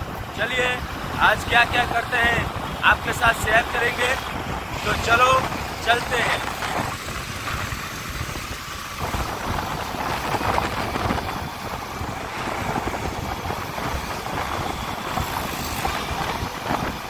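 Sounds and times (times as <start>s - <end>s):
highway traffic: 0.0s - 17.0s
wind rumbling on microphone: 0.0s - 17.0s.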